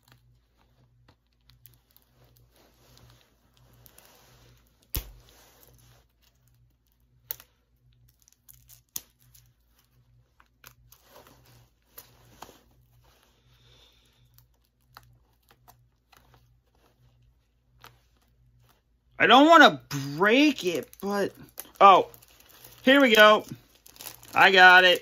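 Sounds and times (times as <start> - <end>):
plastic wrapping crinkling and tearing: 0.0 - 13.3, 14.0 - 19.0, 20.2 - 25.0.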